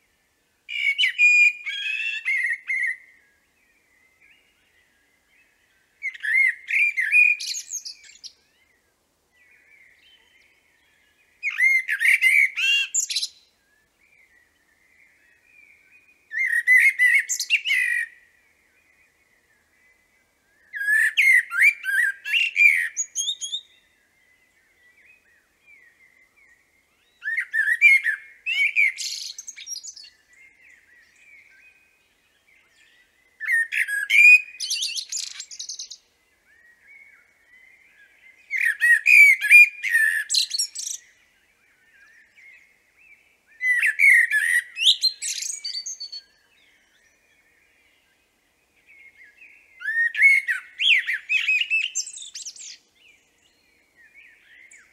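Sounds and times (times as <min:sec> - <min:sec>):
blackbird singing: 0:00.7 - 0:54.9.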